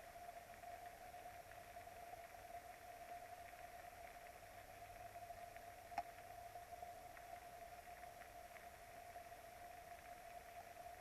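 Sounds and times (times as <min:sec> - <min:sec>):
faint hiss: 0:00.0 - 0:11.0
steady high hum: 0:00.0 - 0:11.0.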